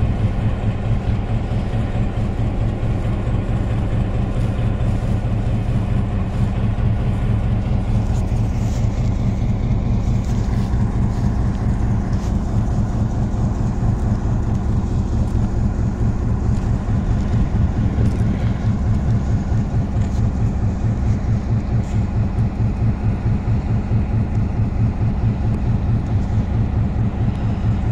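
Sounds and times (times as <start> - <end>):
diesel locomotive engines idling: 0.0 - 27.9.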